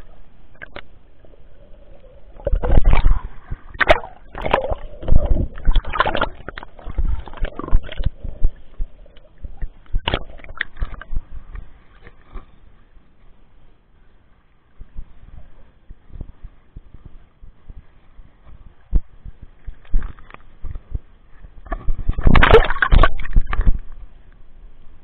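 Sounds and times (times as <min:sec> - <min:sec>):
water splashing and sloshing: 0:00.0 - 0:13.6, 0:14.8 - 0:24.4.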